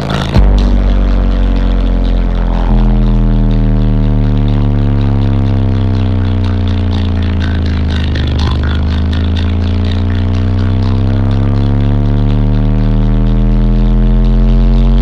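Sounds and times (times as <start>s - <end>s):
deep subwoofer bass tone: 0.0s - 15.0s.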